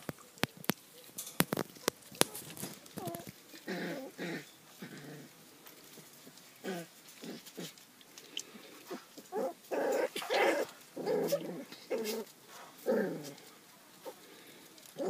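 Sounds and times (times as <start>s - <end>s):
puppies growling and yipping: 1.5s - 14.2s.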